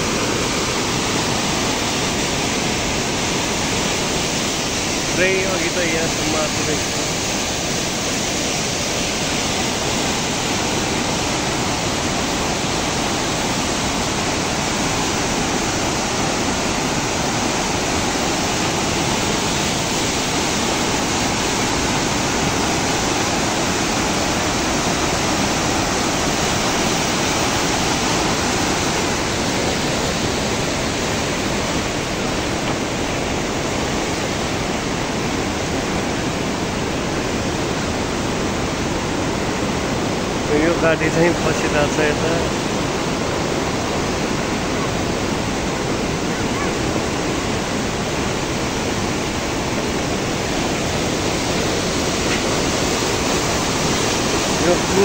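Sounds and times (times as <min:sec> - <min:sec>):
floodwater rushing loudly: 0:00.0 - 0:55.0.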